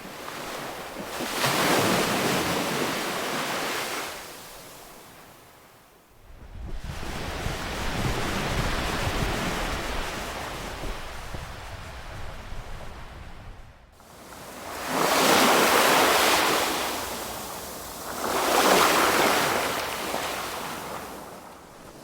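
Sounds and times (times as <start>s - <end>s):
ocean waves breaking: 0.0s - 5.3s, 6.6s - 22.0s.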